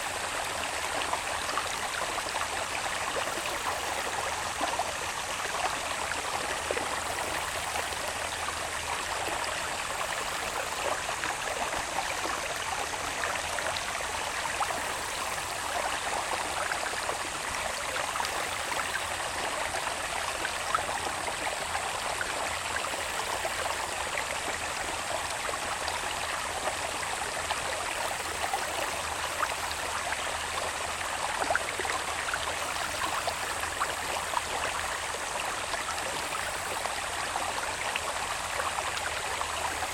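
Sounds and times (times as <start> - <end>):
water babbling in a channel: 0.0 - 39.9.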